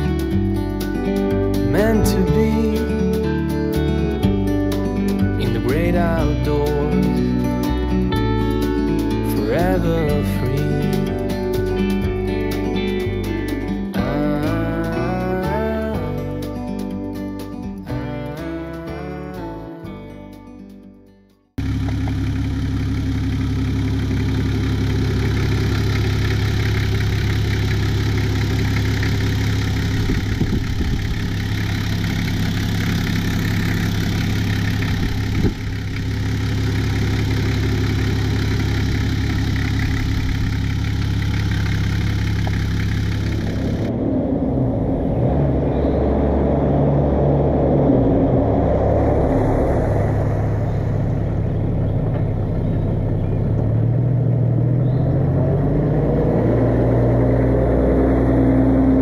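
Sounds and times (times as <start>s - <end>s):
diesel engine idling and revving: 0.0s - 20.4s, 21.6s - 59.0s.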